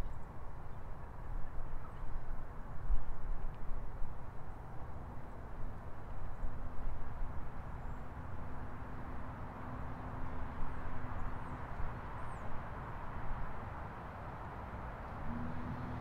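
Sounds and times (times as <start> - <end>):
city road traffic rumble: 0.3 - 16.0.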